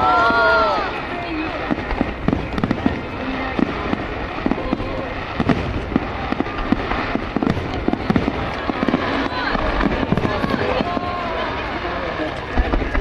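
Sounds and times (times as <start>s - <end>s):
background rumble: 0.0s - 13.0s
fireworks bangs: 0.0s - 13.0s.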